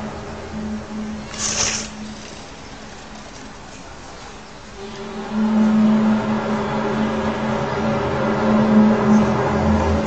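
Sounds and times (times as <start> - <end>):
low droning hum: 0.0 - 3.4, 4.6 - 10.0
rushing background noise: 0.0 - 10.0.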